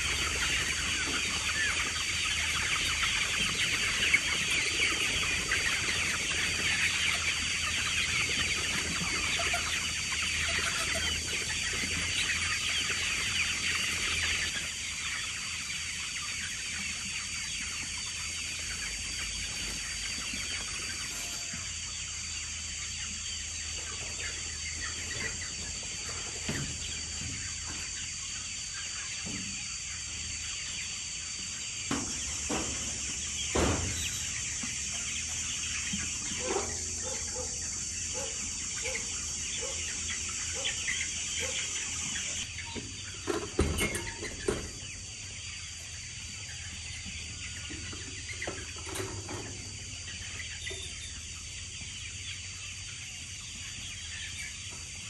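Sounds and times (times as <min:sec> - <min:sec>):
chicks clucking and peeping: 0:00.0 - 0:55.0.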